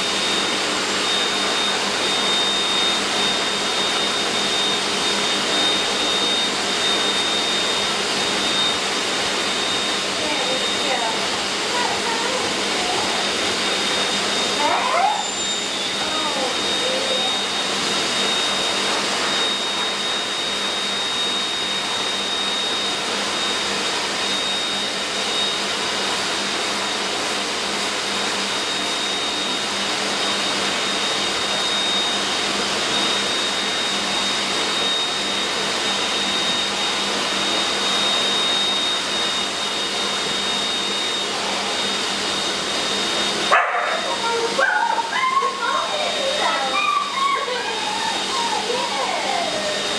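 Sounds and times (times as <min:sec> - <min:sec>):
grooming machine motor whine: 0:00.0 - 0:49.9.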